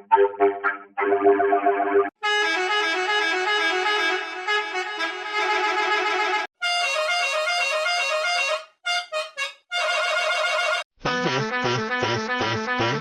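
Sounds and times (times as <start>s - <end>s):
musical bus horn tune: 2.2s - 13.0s.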